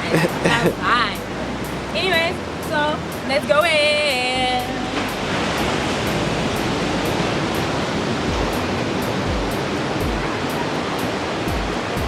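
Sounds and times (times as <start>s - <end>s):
dance music with steady beat: 0.0s - 5.0s, 6.1s - 12.0s
steady rushing noise: 0.0s - 12.0s.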